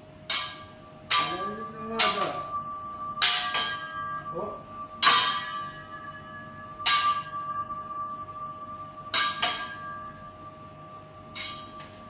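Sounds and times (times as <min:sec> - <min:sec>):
steady high tone: 0:00.0 - 0:12.0
steel utensils clanging: 0:00.3 - 0:12.0.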